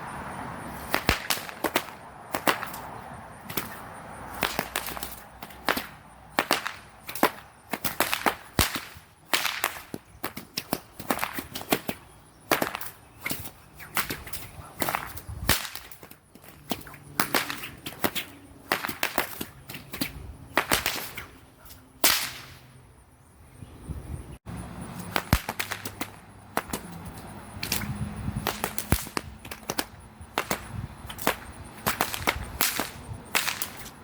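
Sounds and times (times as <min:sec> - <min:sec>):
whips cracking: 0:00.7 - 0:22.8, 0:25.0 - 0:34.0.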